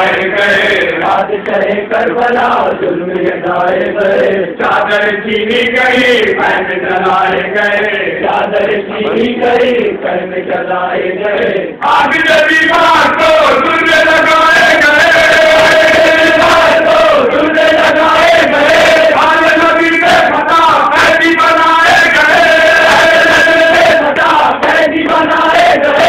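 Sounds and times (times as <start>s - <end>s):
men chanting a lament: 0.0s - 26.0s.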